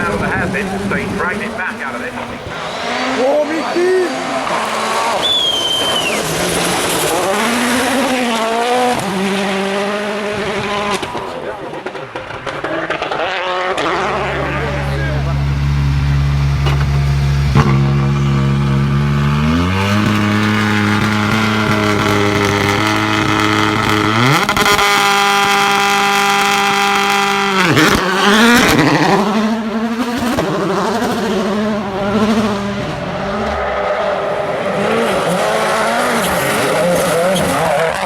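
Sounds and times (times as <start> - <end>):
rally car engine running hard: 0.0 - 38.0.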